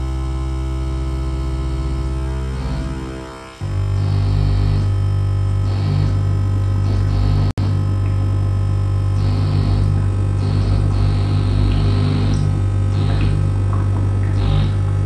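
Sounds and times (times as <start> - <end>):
electronic noise music: 0.0 - 15.0.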